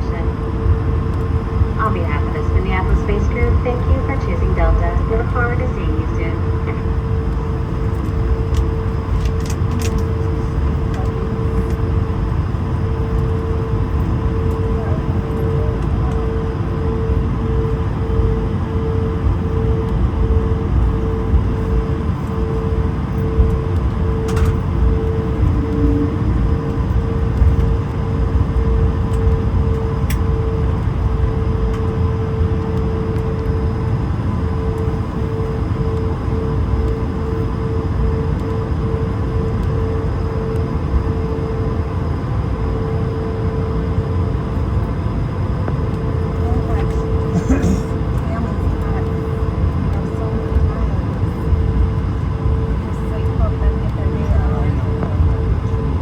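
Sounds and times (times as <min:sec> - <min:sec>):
airliner cabin rumble and hum: 0:00.0 - 0:56.0.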